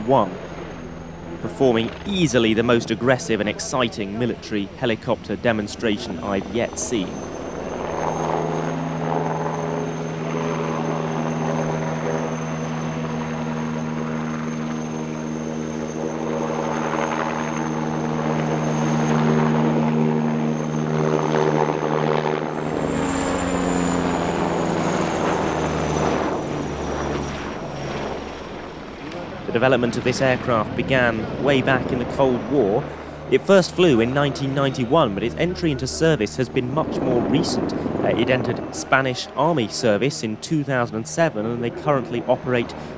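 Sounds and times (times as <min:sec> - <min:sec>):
helicopter rotor drone: 0:00.0 - 0:42.9
high turbine whine: 0:00.0 - 0:42.9.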